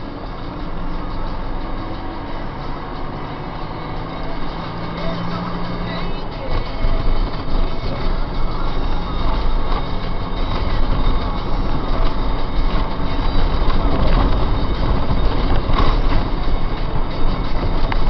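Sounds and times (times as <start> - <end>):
tyre and engine rumble: 0.0 - 18.0.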